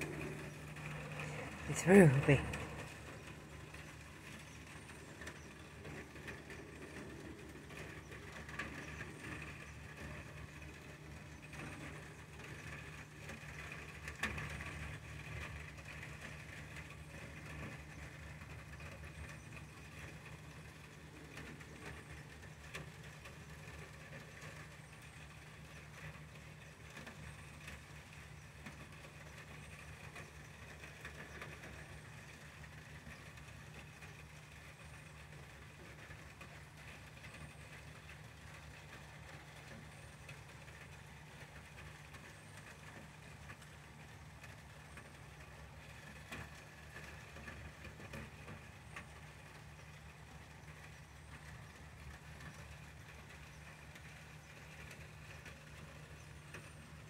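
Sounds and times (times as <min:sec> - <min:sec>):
faint low rumble: 0:00.0 - 0:57.0
outdoor ambience hiss: 0:00.0 - 0:57.0.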